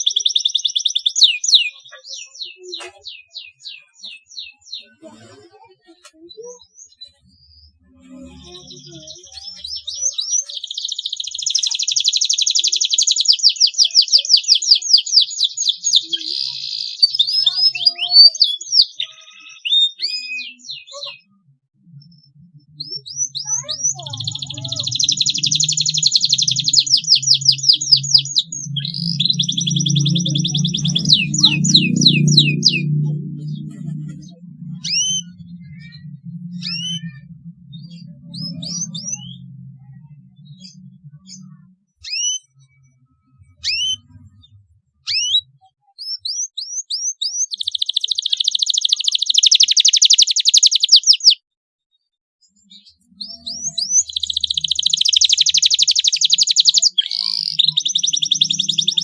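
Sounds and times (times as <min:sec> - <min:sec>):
canary chirping and trilling: 0:00.0 - 0:59.0.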